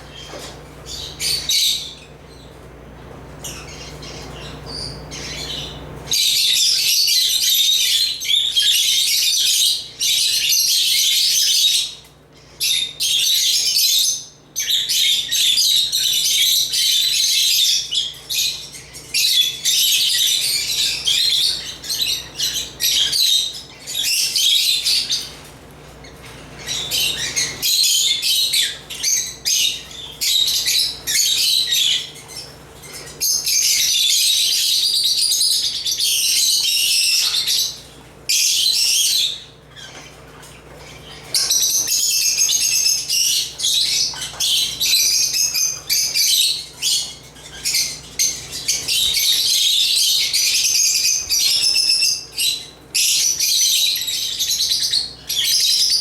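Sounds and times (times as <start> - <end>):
lovebirds chirping and chattering: 0.0 - 56.0.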